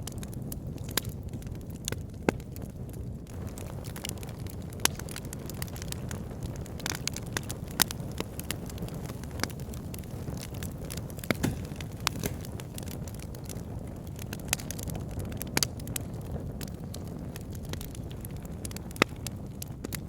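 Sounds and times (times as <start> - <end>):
fire crackles and pops: 0.0 - 20.0
low rumble of flames: 0.0 - 20.0.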